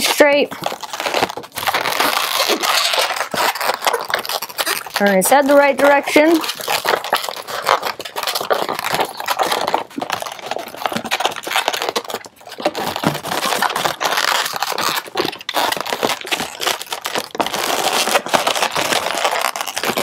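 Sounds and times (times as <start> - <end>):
balloons rubbing and squeaking: 0.0 - 20.0.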